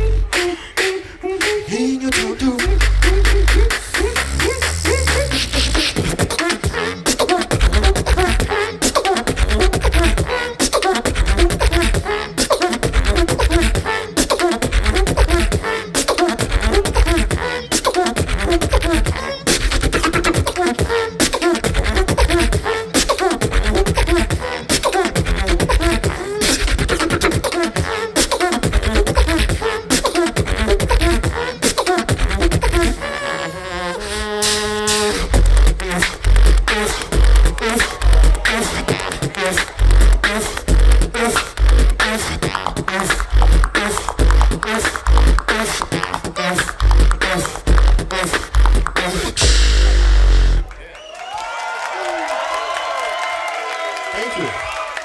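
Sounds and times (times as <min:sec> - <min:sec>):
beatboxing: 0:00.0 - 0:50.9, 0:54.2 - 0:54.6.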